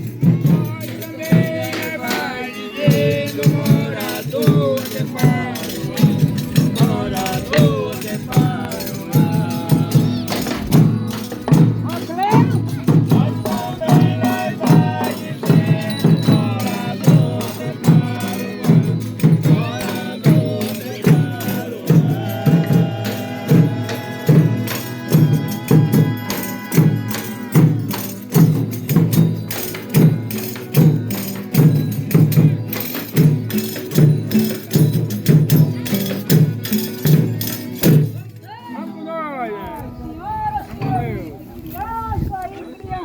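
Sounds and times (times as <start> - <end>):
low steady drum beat: 0.0 - 38.3
tambourine: 0.0 - 38.4
folk ensemble playing: 0.0 - 42.9.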